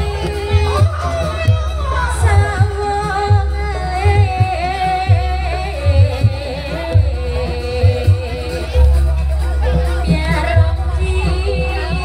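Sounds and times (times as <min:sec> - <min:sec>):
loud deep drum beat: 0:00.0 - 0:12.0.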